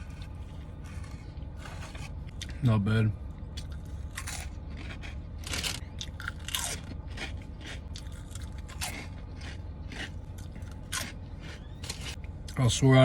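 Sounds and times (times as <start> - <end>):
person chewing crunchy food: 0.0 - 2.6, 3.5 - 12.6.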